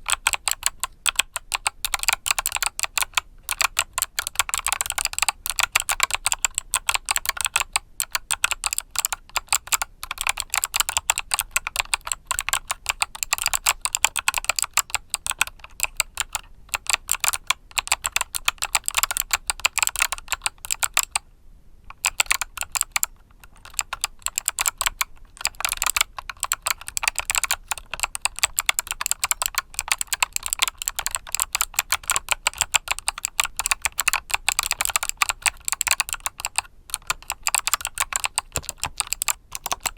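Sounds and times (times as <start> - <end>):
fast mechanical keyboard typing: 0.0 - 21.2, 21.9 - 39.9.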